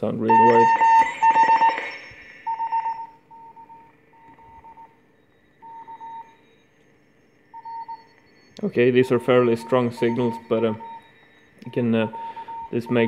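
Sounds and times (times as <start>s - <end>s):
morse code tone: 0.2s - 13.0s.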